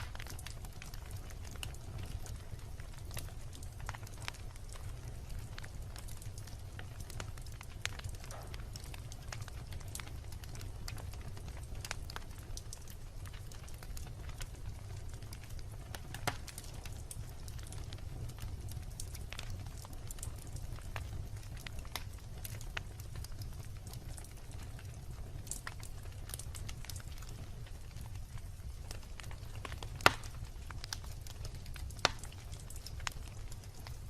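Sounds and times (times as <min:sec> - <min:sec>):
campfire crackling and popping: 0:00.0 - 0:34.0
low fire rumble: 0:00.0 - 0:34.0.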